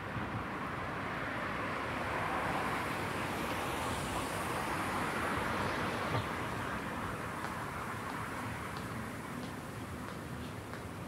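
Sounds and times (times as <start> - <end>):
tyres and engines of light traffic: 0.0 - 11.0.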